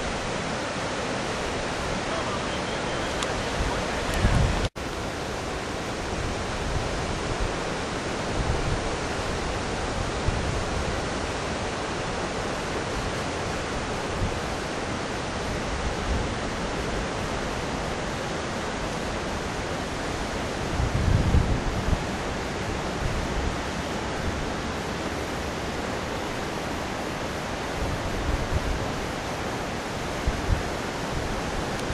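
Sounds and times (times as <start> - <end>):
river rushing roar: 0.0 - 31.9
wind buffeting microphone: 3.1 - 4.8, 6.0 - 26.8, 27.5 - 29.2, 29.8 - 31.9.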